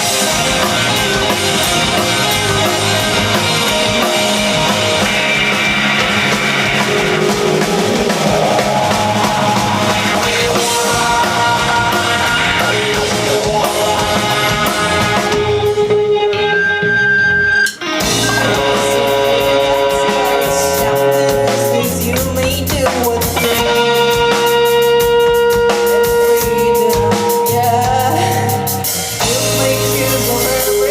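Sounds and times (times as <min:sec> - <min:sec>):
rock band playing: 0:00.0 - 0:30.9.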